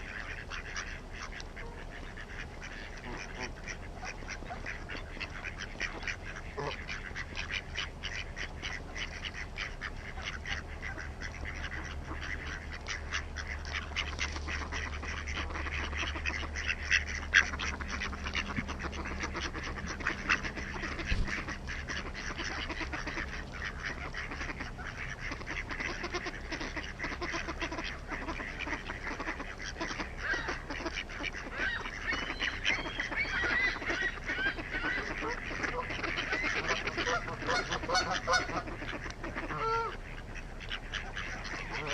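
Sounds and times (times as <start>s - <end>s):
ducks quacking: 0.0s - 41.9s
geese honking: 0.0s - 41.9s.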